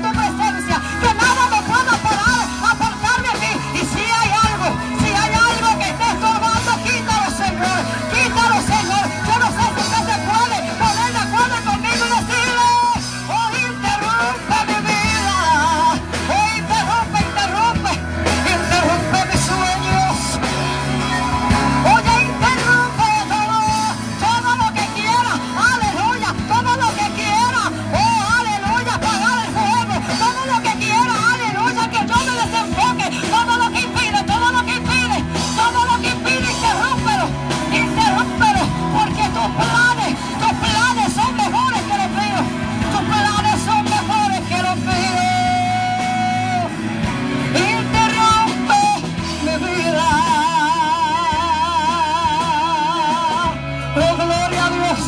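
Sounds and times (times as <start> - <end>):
bass: 0.0 - 55.0
drums: 0.0 - 55.0
guitars: 0.0 - 55.0
instrumental worship band music: 0.0 - 55.0
person singing lead vocal: 0.0 - 55.0.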